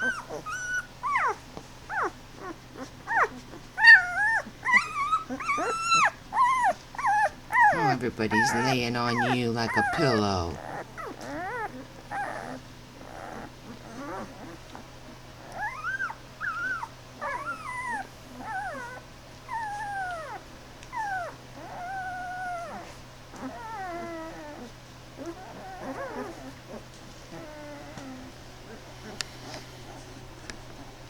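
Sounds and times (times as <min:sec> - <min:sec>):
puppies whimpering and squealing: 0:00.0 - 0:31.0.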